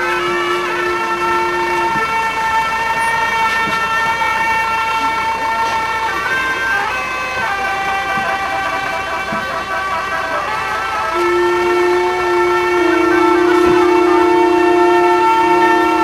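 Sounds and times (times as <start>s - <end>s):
wind instruments playing long notes: 0.0s - 16.0s.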